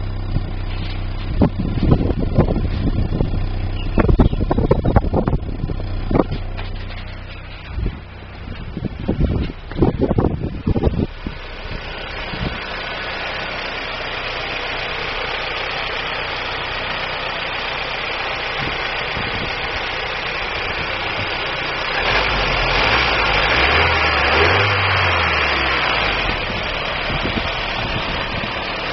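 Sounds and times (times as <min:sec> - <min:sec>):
misfiring car engine idling: 0:00.0 - 0:28.9.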